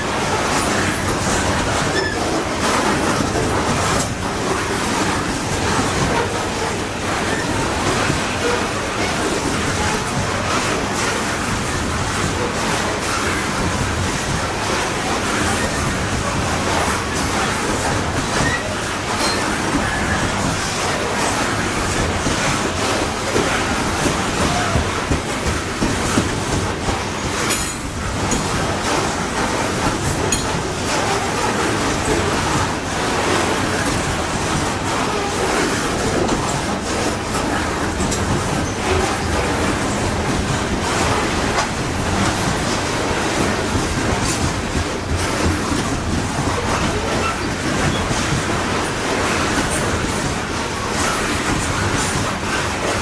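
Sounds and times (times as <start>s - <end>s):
train wheels clacking on rail joints: 0.0s - 53.0s.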